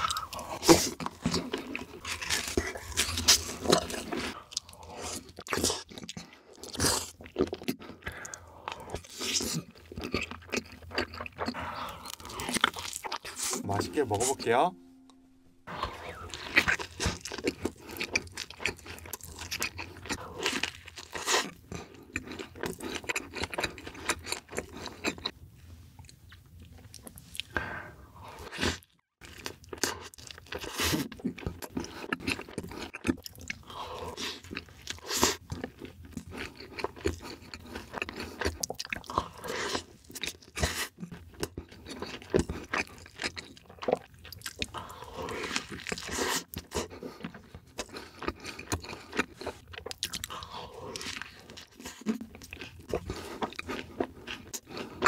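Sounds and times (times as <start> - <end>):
person chewing food: 0.0 - 14.5, 15.6 - 55.0.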